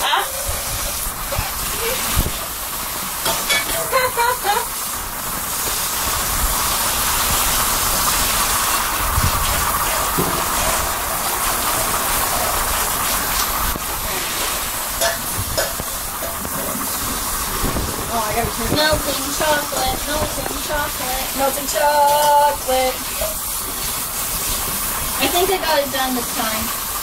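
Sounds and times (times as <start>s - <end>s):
tap water rushing into pot: 0.0s - 27.0s.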